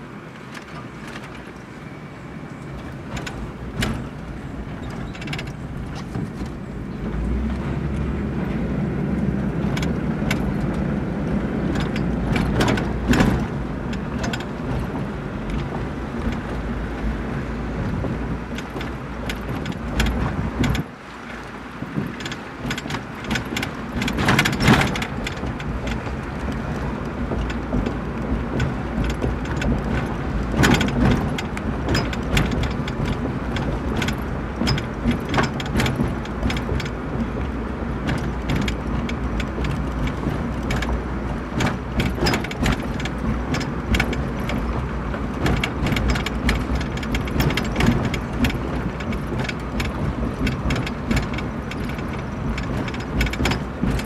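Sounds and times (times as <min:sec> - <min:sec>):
vehicle engine and road rumble: 0:00.0 - 0:54.0
small clicks and rattles: 0:02.8 - 0:06.8, 0:07.5 - 0:16.8, 0:17.8 - 0:20.9, 0:22.0 - 0:54.0.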